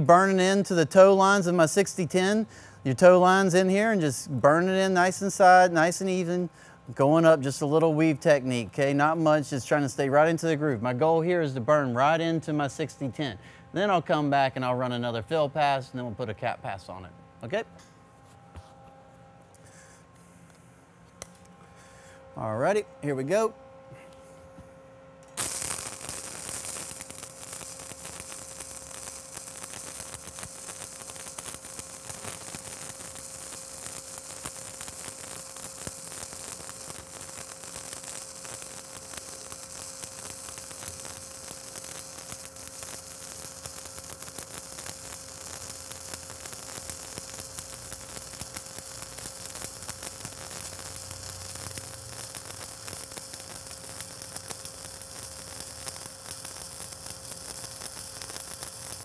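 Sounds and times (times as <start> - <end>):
welding arc crackling sizzle: 0.0 - 17.1, 25.2 - 59.0
steady hum: 0.0 - 59.0.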